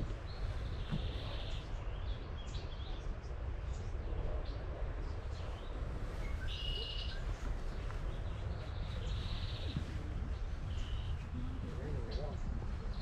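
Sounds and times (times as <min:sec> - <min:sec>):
buzzy trilled birdsong: 0:00.0 - 0:13.0
songbirds chirping: 0:00.0 - 0:13.0.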